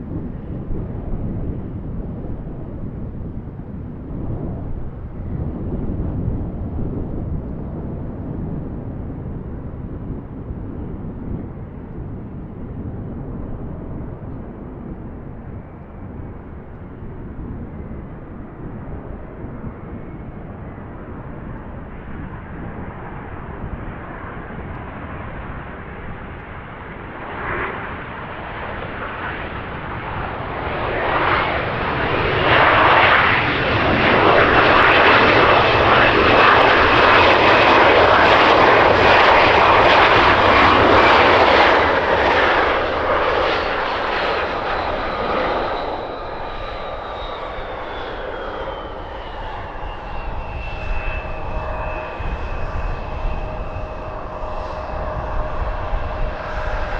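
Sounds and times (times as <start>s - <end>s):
jet engine high whine: 0.0s - 56.9s
jet engines rushing: 0.0s - 56.9s
wind rumble on microphone: 0.0s - 56.9s.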